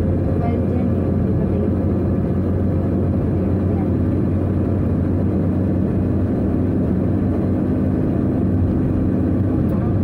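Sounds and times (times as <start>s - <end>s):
car engine and tyres droning: 0.0s - 10.0s.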